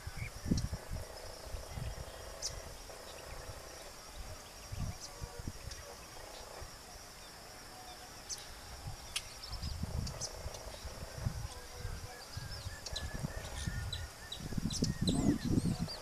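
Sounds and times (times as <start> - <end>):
insect hum: 0.0 - 16.0.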